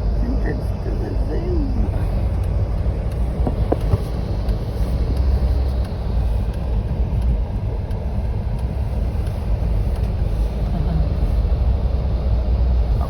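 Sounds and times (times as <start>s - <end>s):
car interior driving rumble: 0.0s - 13.0s.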